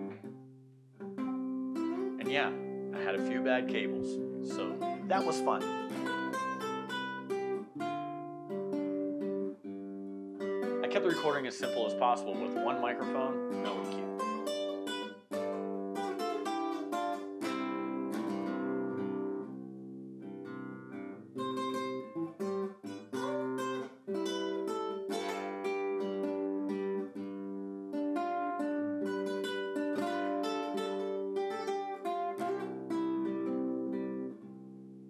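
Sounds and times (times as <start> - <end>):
classical guitar fingerstyle: 0.0 - 35.0.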